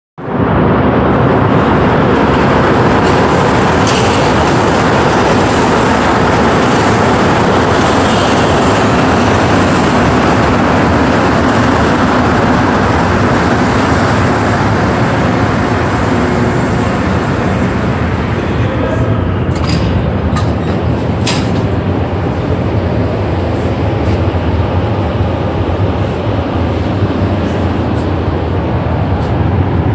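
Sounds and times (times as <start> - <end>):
metro train pulling in: 0.2 - 29.9.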